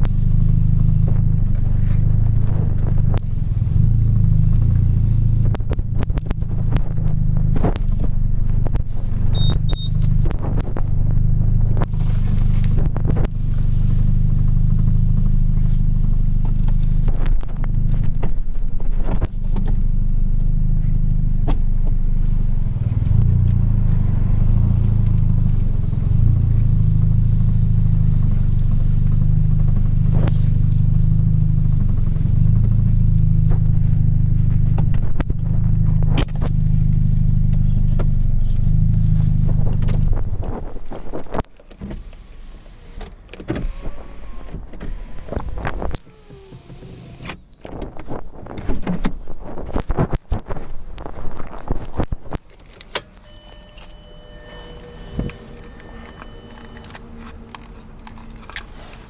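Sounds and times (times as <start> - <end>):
car engine exhaust drone: 0.0 - 59.0.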